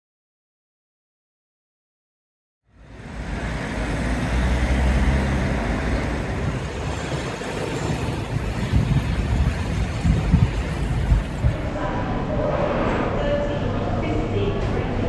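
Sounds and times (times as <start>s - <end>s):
city street traffic rumble: 2.7s - 15.0s.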